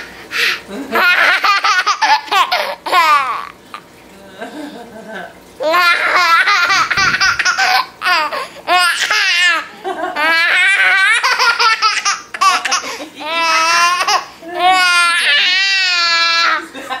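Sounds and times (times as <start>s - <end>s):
baby laughing: 0.4s - 3.8s, 5.6s - 17.0s.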